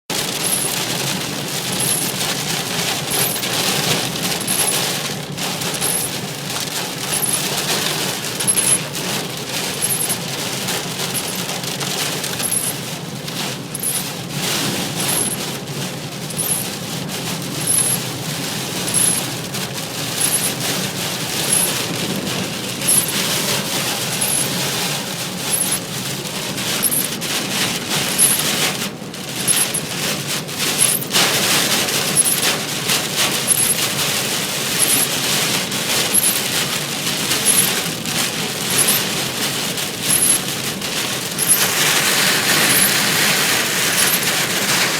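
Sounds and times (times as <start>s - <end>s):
heavy rain on car roof: 0.1s - 44.9s.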